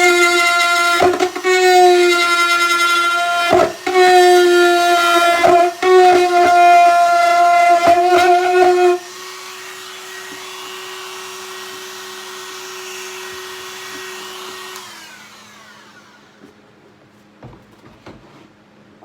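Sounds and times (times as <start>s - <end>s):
grinder whining: 0.0s - 16.7s.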